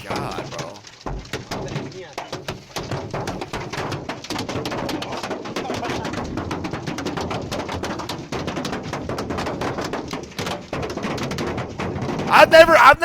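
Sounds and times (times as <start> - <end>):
hailstones striking hard surfaces: 0.0 - 12.8.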